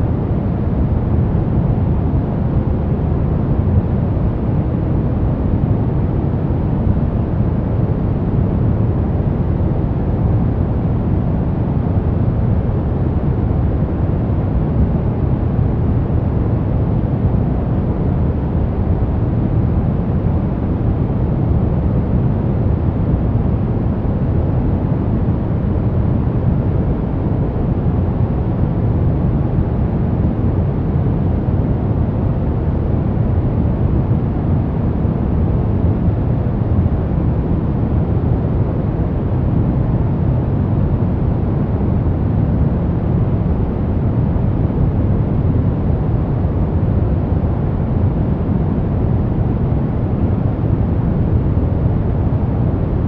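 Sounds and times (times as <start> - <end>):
low white noise hiss: 0.0 - 53.0.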